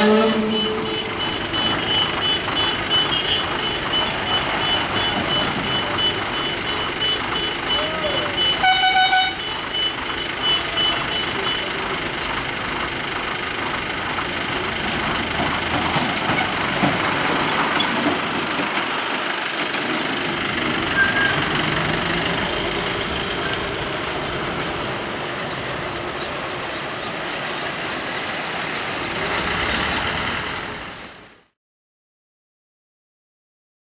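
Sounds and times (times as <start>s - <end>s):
heavy vehicle engines running: 0.0s - 31.6s.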